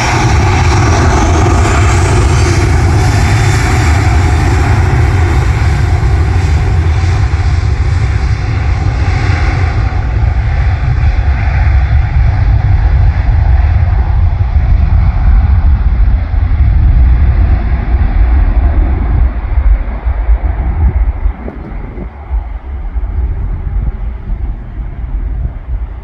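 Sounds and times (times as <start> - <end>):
aircraft engines passing: 0.0 - 26.0.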